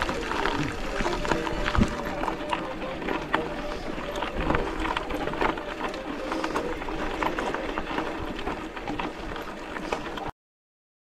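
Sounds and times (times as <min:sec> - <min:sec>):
bicycle tyres crunching on gravel: 0:00.0 - 0:10.2.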